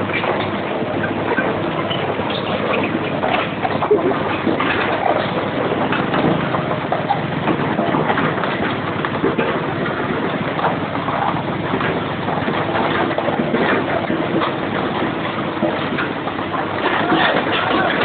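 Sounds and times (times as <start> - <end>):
heavy truck engine running: 0.0 - 18.0.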